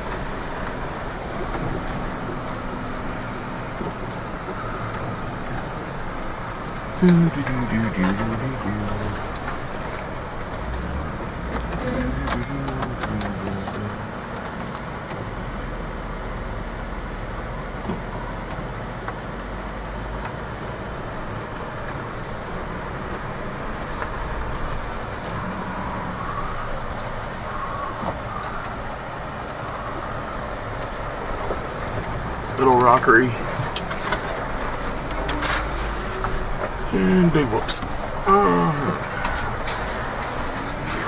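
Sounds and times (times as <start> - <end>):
engine and road rumble: 0.0 - 41.0.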